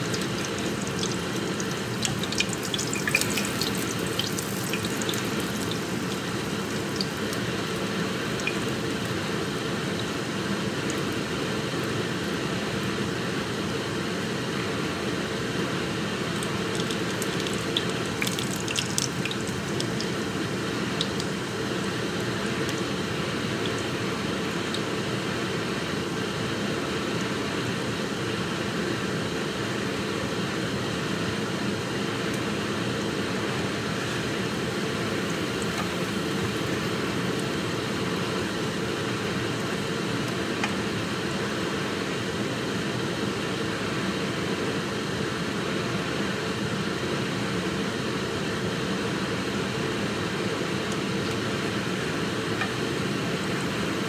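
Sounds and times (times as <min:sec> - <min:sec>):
steady fan rushing noise: 0:00.0 - 0:54.0.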